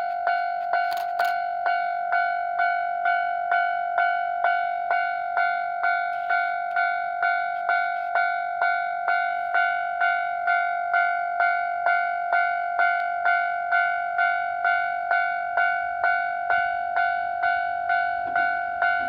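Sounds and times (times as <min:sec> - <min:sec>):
level crossing warning bell: 0:00.0 - 0:19.0.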